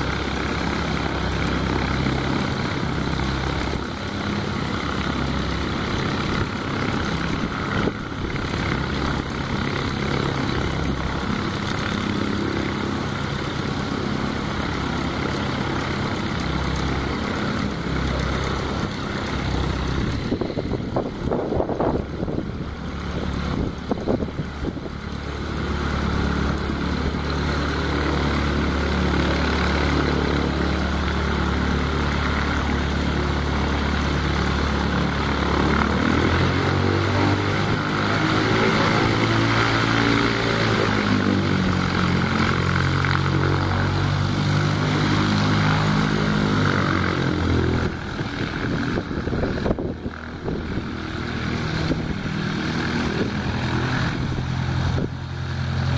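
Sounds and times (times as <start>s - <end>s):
aircraft engine and propeller: 0.0s - 55.9s.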